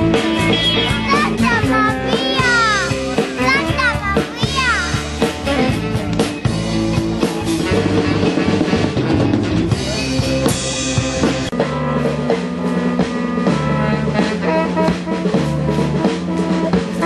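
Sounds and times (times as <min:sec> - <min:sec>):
bass guitar: 0:00.0 - 0:17.0
drum kit playing a steady beat: 0:00.0 - 0:17.0
electric guitar: 0:00.0 - 0:17.0.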